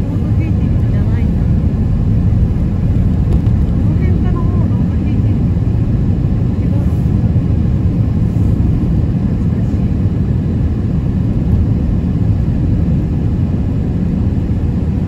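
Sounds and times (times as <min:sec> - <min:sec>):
car interior road rumble: 0:00.0 - 0:14.8.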